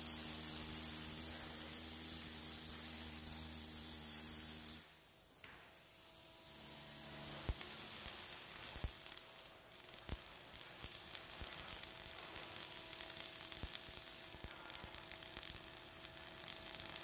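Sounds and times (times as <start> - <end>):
welding arc crackling: 0.0 - 17.0
welding arc popping: 0.0 - 17.0.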